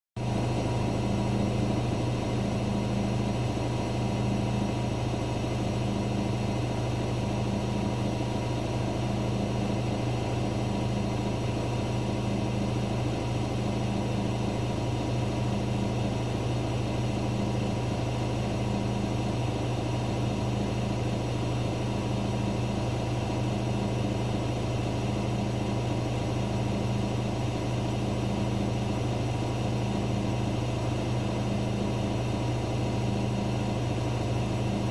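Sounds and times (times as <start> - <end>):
washing machine spinning: 0.2 - 34.9.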